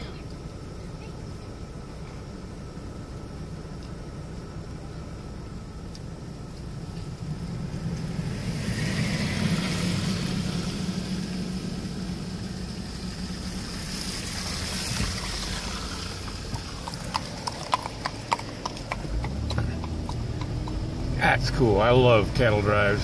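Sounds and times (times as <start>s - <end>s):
cars passing with tyre hiss: 0.0s - 23.0s
vehicle engine hum from cab: 0.0s - 23.0s.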